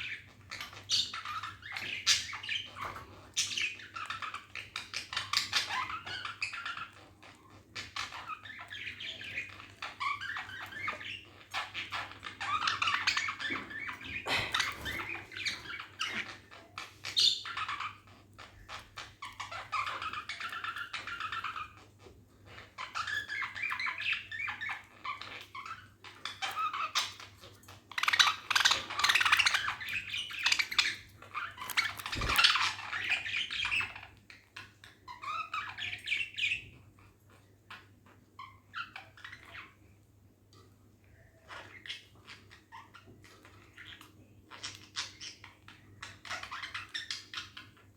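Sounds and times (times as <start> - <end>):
budgerigars chirping and warbling: 0.0 - 39.8, 41.1 - 47.9.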